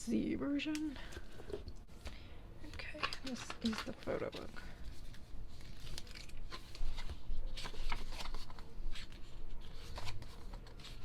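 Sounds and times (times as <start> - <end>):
paper pages rustling: 1.1 - 11.0.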